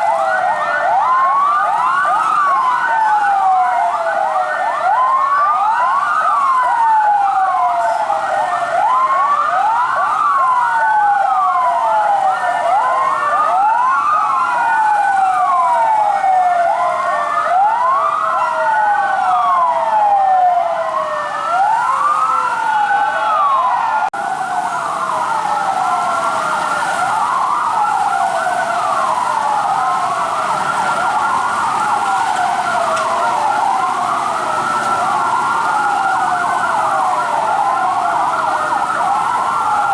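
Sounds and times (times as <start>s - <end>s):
fire truck sirens wailing: 0.0s - 39.9s.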